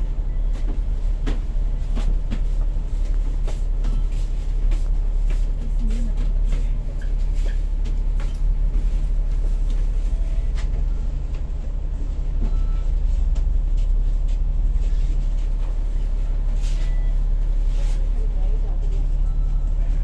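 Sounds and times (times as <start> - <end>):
bus body rattles and clicks: 0.0 - 20.0
bus engine droning: 0.0 - 20.0.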